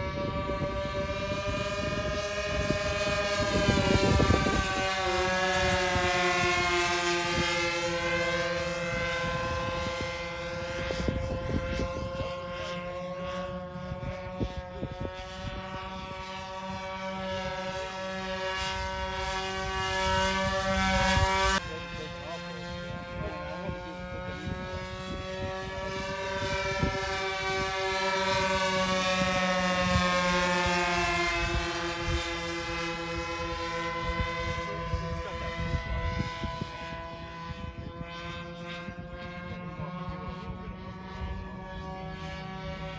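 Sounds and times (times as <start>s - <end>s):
model plane engines running: 0.0s - 42.9s.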